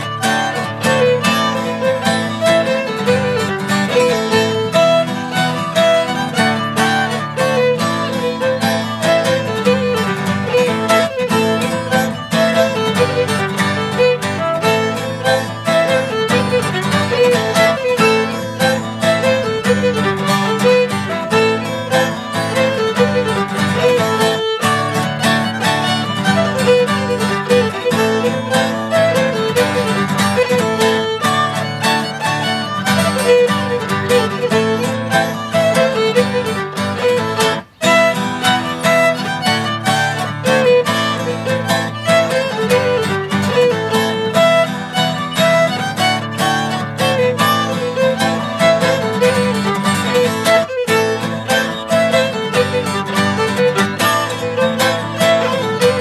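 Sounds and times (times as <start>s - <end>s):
acoustic guitar chords: 0.0s - 56.0s
fiddle melody: 0.0s - 56.0s.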